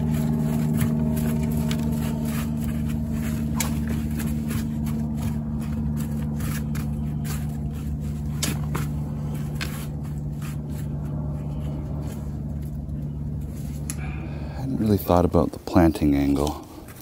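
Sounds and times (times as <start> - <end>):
hands rustling through potting soil: 0.0 - 17.0
low mechanical hum: 0.0 - 17.0.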